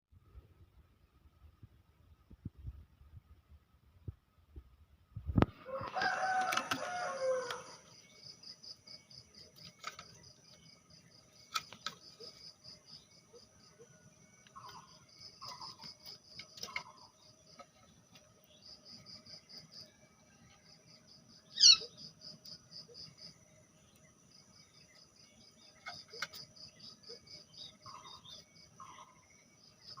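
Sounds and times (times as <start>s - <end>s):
insect chirping: 5.2s - 30.0s.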